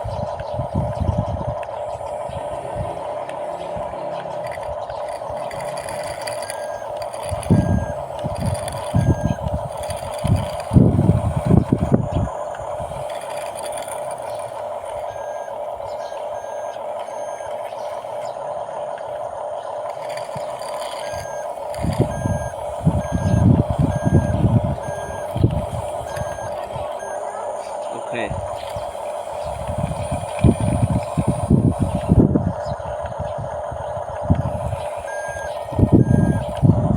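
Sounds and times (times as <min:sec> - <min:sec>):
bulldozer pushing sand rumbling: 0:00.0 - 0:32.7, 0:33.5 - 0:36.9
electronic reversing beeper: 0:00.0 - 0:32.8, 0:33.5 - 0:36.9
toy bulldozer motor humming: 0:00.0 - 0:36.9.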